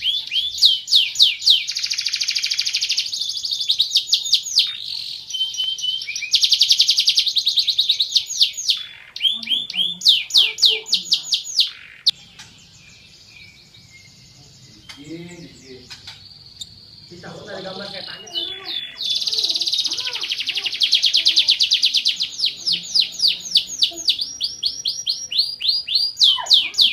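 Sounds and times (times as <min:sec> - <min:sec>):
canary singing with trills: 0:00.0 - 0:26.9.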